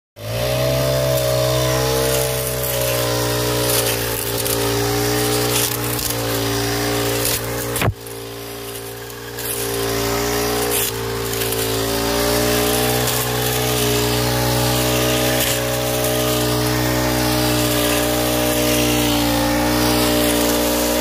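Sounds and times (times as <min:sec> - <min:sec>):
blade cutting weeds: 0:00.2 - 0:21.0
brush cutter engine running: 0:00.2 - 0:21.0.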